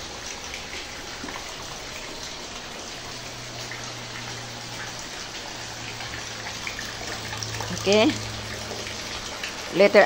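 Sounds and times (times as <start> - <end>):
rainwater splashing into bucket: 0.0 - 10.0
steady rain: 0.0 - 10.0.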